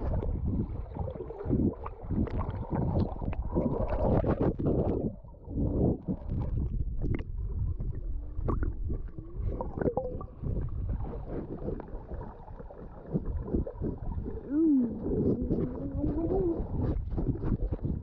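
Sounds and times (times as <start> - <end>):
muffled underwater gurgling: 0.0 - 18.0.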